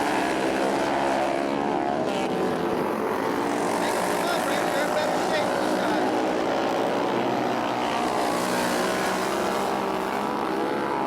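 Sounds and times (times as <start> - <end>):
racing motorcycle engines droning: 0.0 - 11.0.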